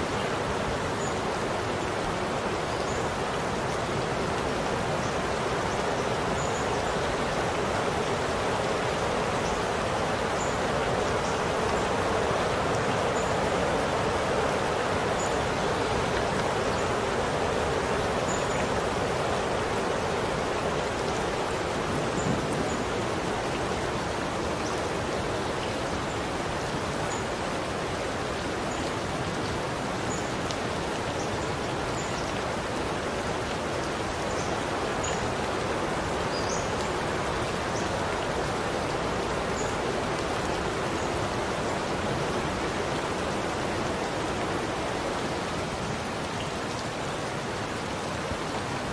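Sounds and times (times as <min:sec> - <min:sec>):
faint ticks of raindrops: 0:00.0 - 0:48.9
steady rain hiss: 0:00.0 - 0:48.9.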